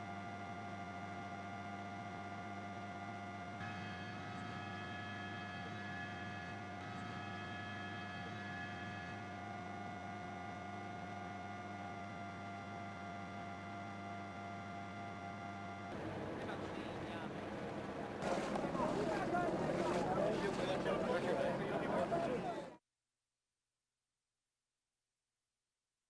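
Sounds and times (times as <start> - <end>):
steady hum of held tones: 0.0 - 22.7.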